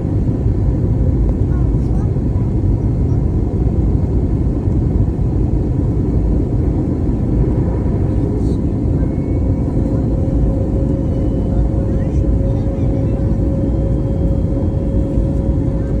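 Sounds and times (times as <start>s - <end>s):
airplane engine rumble: 0.0s - 16.0s.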